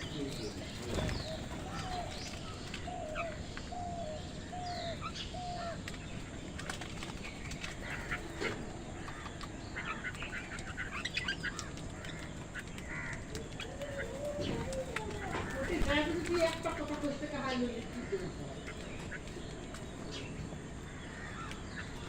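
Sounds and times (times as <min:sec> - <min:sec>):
birds chirping and squawking: 0:00.0 - 0:22.0
steady background noise: 0:00.0 - 0:22.0.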